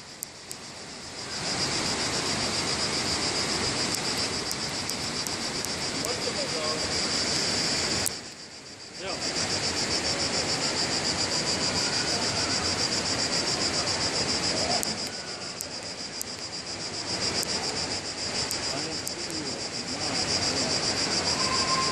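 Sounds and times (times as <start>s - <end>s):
cicadas buzzing: 0.0s - 21.9s.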